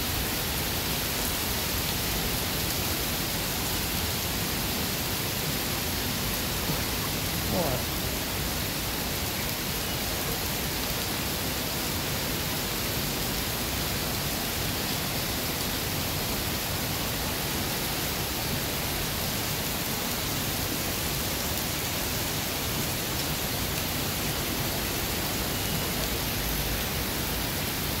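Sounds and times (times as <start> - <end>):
heavy rain on wet paving: 0.0 - 28.0.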